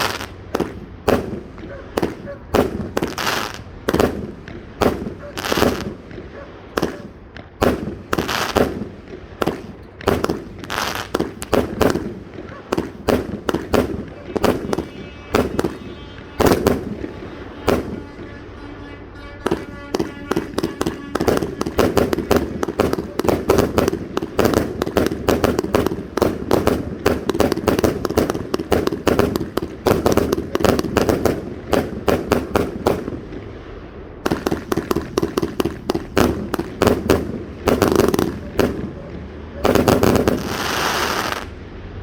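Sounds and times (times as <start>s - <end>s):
firework cake firing volleys: 0.0s - 18.6s, 19.3s - 41.6s
firework crackle: 0.0s - 41.7s.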